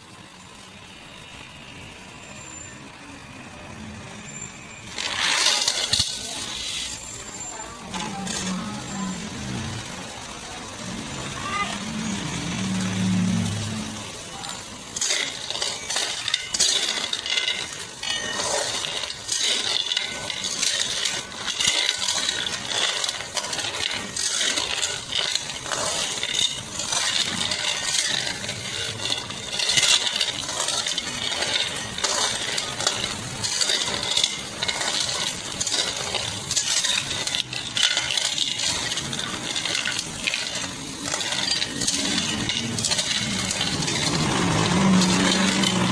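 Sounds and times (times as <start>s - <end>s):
mussel shells clattering in metal pan: 4.8s - 45.9s.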